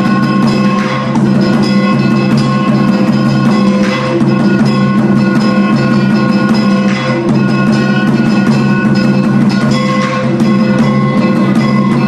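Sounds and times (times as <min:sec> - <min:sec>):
music of held steady tones: 0:00.0 - 0:12.0
quick percussion strikes: 0:00.0 - 0:12.0.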